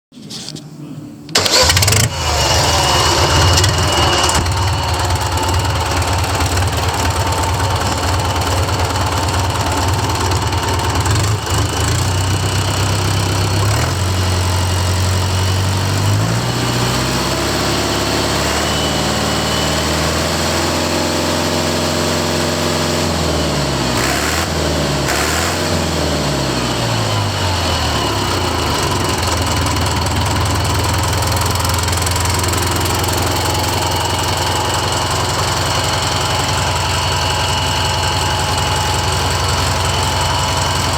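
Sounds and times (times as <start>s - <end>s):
diesel engine idling and revving: 1.4s - 40.9s.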